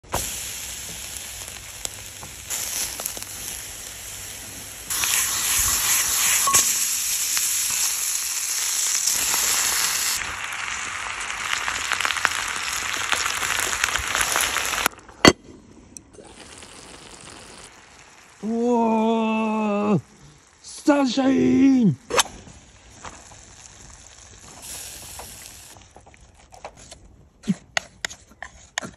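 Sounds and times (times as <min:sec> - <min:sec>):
food sizzling in a pan: 0:00.1 - 0:14.9, 0:16.2 - 0:25.8.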